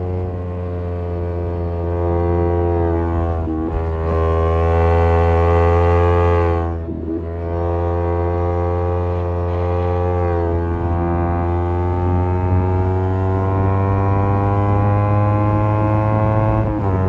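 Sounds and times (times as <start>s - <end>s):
motorcycle exhaust note: 0.0s - 17.0s.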